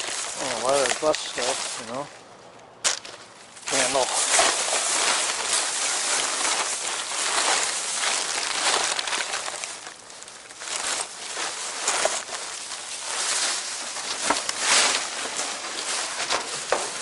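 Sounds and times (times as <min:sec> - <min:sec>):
plastic bags rustling: 0:00.0 - 0:17.0.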